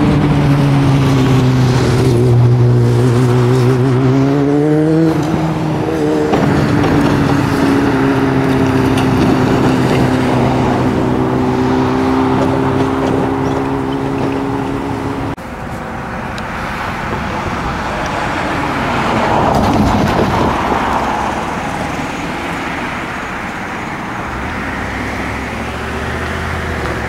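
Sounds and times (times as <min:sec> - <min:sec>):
road vehicle passing: 0:00.0 - 0:27.0.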